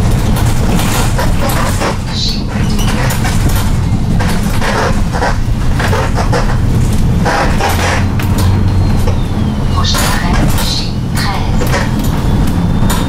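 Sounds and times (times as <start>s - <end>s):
bus body creaks and rattles: 0.0s - 13.0s
low rumble of engine and road: 0.0s - 13.0s.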